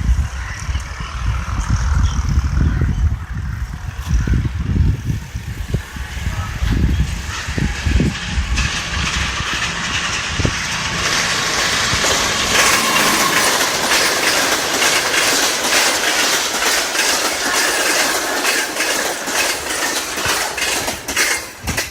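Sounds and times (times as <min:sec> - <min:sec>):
train wheel and track noise: 0:00.0 - 0:21.9
wheels clicking over rail joints: 0:03.4 - 0:21.9.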